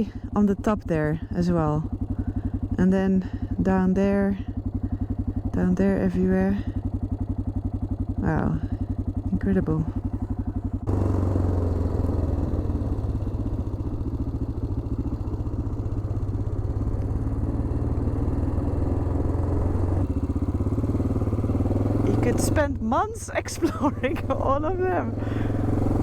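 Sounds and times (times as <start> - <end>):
motorcycle engine thumping: 0.0 - 26.0.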